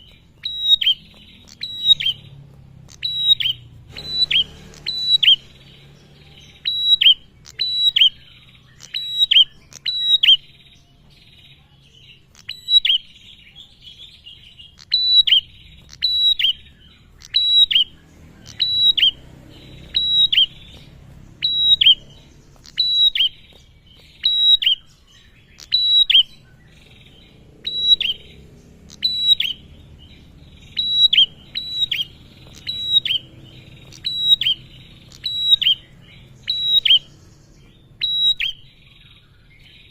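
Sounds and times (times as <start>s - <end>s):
bird calling sharp high notes: 0.0s - 11.3s, 14.4s - 29.8s, 30.6s - 37.2s, 38.0s - 39.9s.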